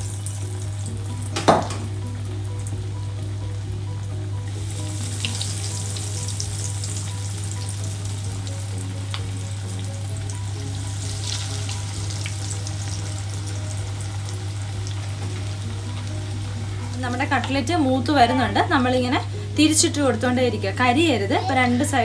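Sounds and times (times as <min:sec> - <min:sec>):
fish frying in oil: 0:00.0 - 0:18.6
background music: 0:00.0 - 0:22.0.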